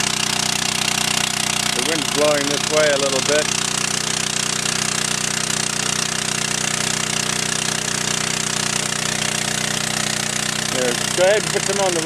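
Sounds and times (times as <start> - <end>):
fire pump engine running: 0.0 - 12.0
water spraying from hose nozzle: 0.0 - 12.0.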